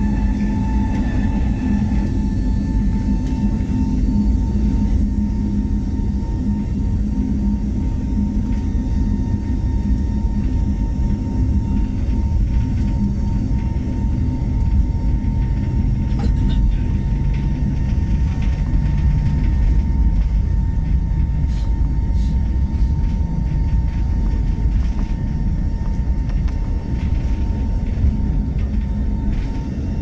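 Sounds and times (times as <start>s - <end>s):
airliner cabin rumble: 0.0s - 30.0s
thin steady whine: 0.0s - 30.0s.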